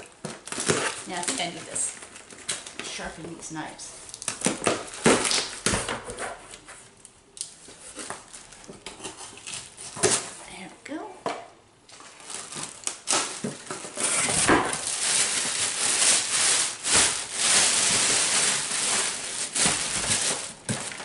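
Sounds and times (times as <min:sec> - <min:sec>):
plastic bag crinkling: 0:00.0 - 0:05.6, 0:07.4 - 0:10.4, 0:11.9 - 0:21.0.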